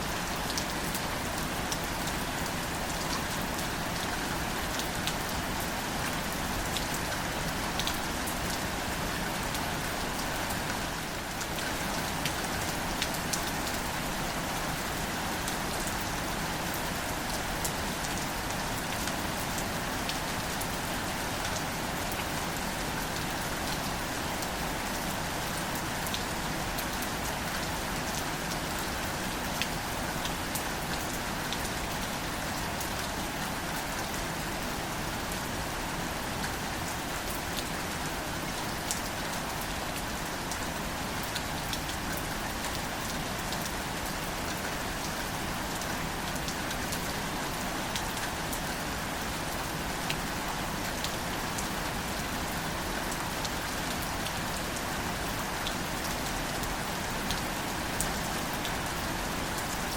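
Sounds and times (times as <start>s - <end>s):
gentle rain on leaves: 0.0s - 59.9s.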